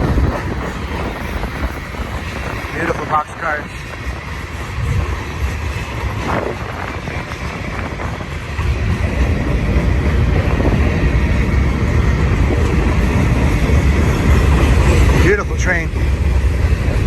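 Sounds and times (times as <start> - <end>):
freight train rumbling past: 0.0 - 17.0
wind buffeting microphone: 0.0 - 17.0.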